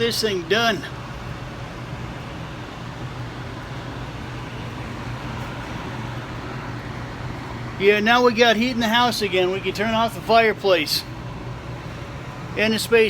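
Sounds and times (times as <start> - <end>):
gas furnace humming: 0.0 - 13.0.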